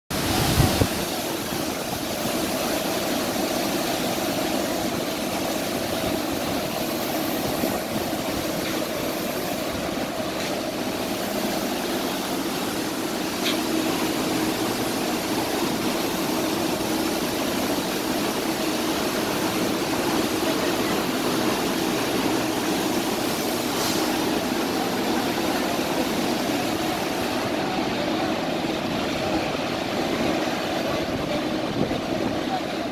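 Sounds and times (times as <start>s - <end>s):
factory machinery drone: 0.2s - 32.9s.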